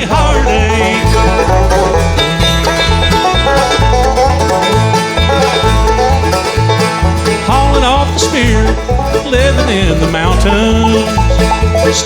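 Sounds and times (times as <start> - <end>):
banjo picking: 0.0 - 12.0
guitar picking: 0.0 - 12.0
steady bass beat: 0.0 - 12.0.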